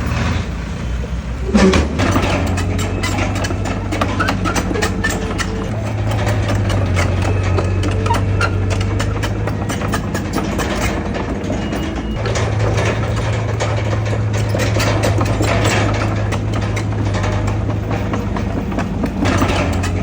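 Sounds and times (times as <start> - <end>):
heavy diesel engine running: 0.0 - 20.0
rapid clicks and knocks: 1.5 - 20.0.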